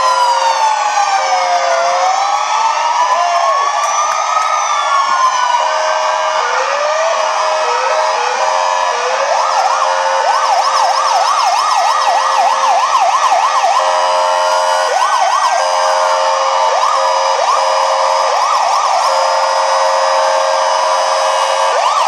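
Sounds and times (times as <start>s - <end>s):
siren yelp: 0.0s - 22.0s
two-tone siren: 0.0s - 22.0s.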